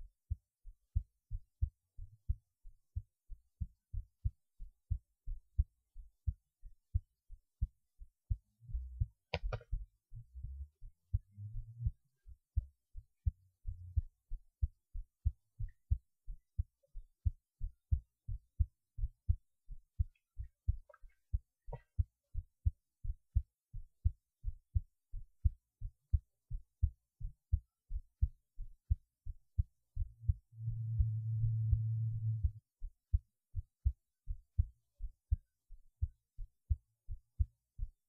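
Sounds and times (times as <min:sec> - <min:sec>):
heartbeat thumps: 0:01.0 - 0:19.4, 0:20.0 - 0:37.9.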